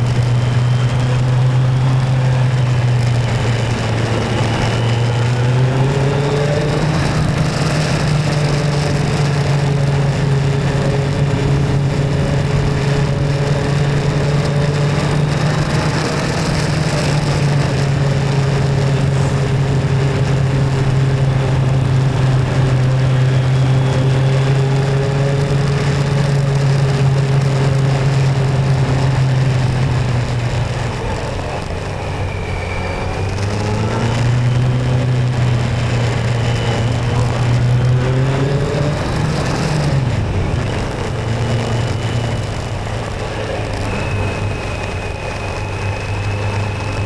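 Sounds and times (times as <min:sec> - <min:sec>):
motorcycle engine running: 0:00.0 - 0:47.0
wind and road noise: 0:00.0 - 0:47.0.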